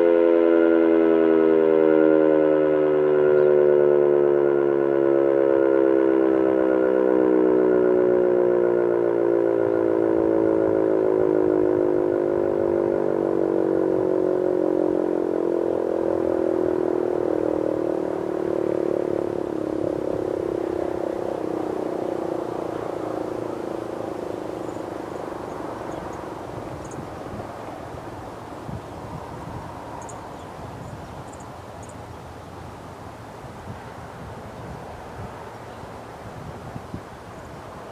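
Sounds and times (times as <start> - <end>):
warning siren winding down: 0.0 - 32.9.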